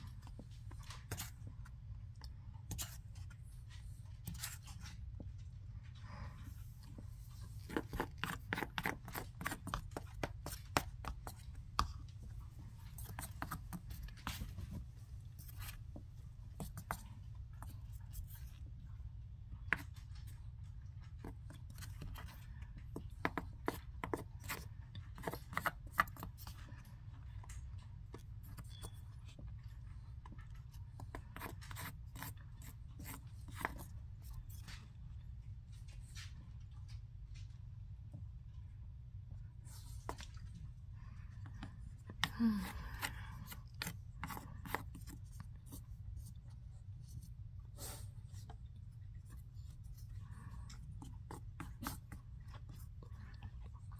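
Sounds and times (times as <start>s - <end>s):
faint low hum: 0.0s - 53.9s.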